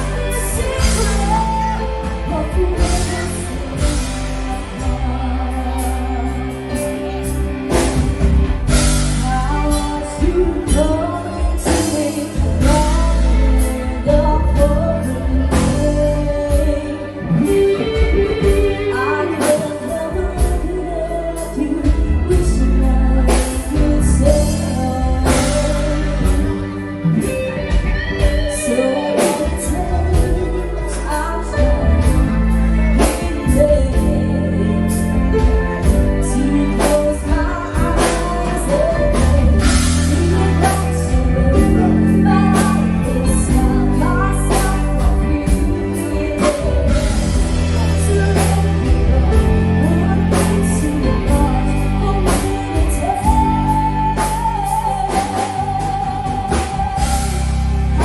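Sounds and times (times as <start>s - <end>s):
band with drums and bass: 0.0s - 58.0s
person singing: 0.0s - 58.0s.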